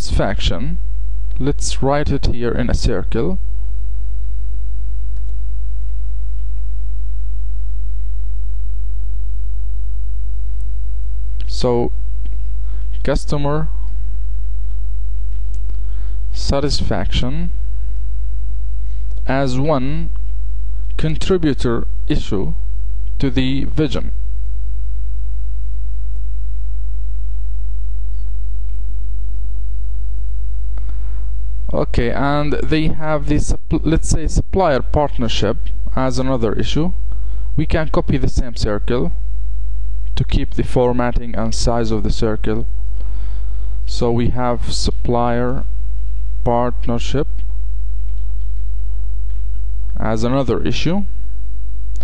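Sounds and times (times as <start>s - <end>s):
electrical mains hum: 0.0s - 52.0s.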